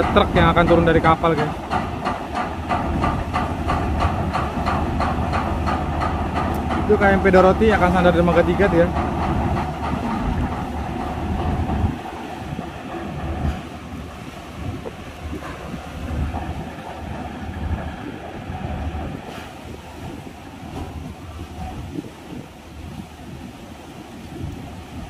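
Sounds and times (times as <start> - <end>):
rough sea against pier: 0.0 - 25.0
wind buffeting microphone: 0.0 - 25.0.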